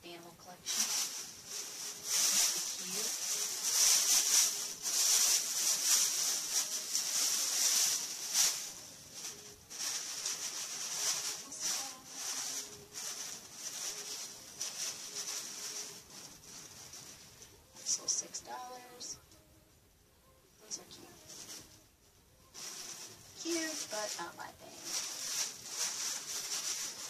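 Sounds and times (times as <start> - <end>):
plastic and paper rustling: 0.4 - 19.2, 20.7 - 21.9, 22.5 - 27.0.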